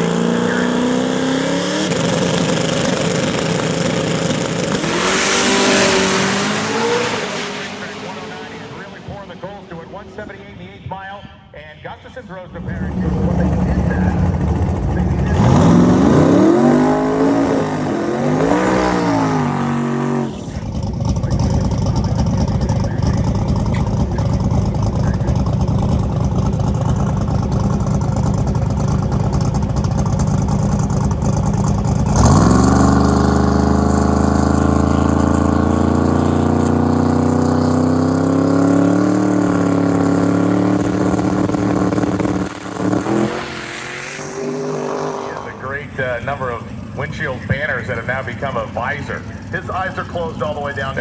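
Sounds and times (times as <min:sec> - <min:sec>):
racing car engine at full throttle: 0:00.0 - 0:11.2, 0:12.4 - 0:51.0.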